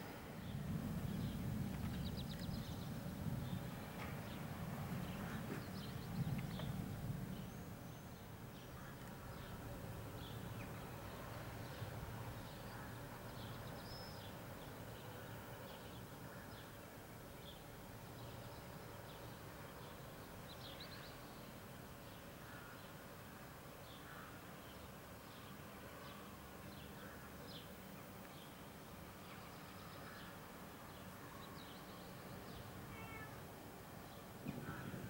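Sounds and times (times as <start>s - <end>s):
city background hum: 0.0s - 35.0s.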